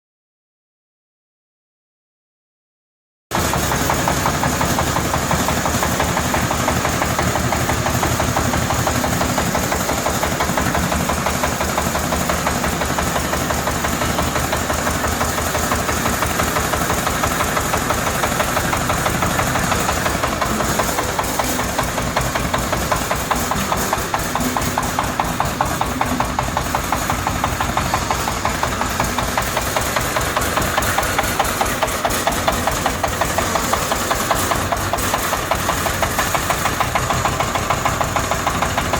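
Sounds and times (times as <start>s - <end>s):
small diesel engine clattering: 3.3s - 38.9s.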